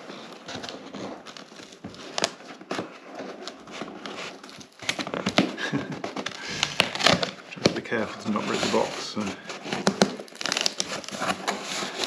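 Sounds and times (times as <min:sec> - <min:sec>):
cardboard scraping and crinkling: 0:00.0 - 0:12.0.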